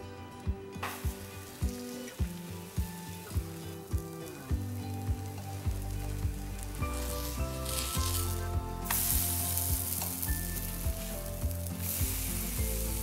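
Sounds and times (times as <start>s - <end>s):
background music with low beat: 0.0s - 13.0s
pancakes sizzling in oil: 0.9s - 13.0s.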